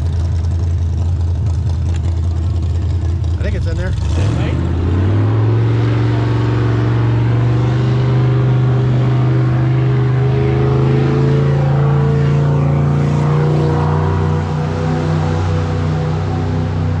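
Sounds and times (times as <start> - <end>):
tractor engine running loud: 0.0 - 17.0.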